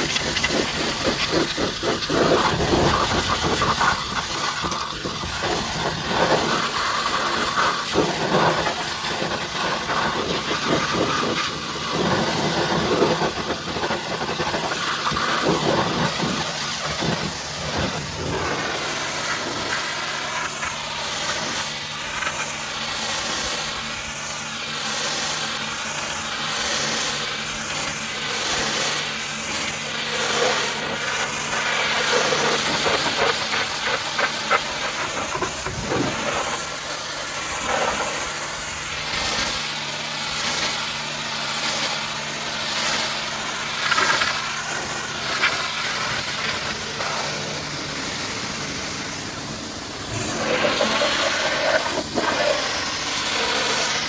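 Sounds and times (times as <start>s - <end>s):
machine hum: 0.0s - 54.0s
pressure washer jet hissing: 0.0s - 54.0s.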